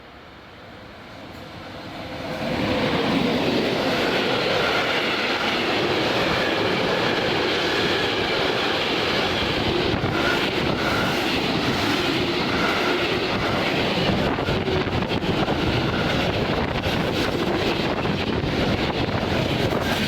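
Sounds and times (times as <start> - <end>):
train passing on rails: 0.0 - 20.0.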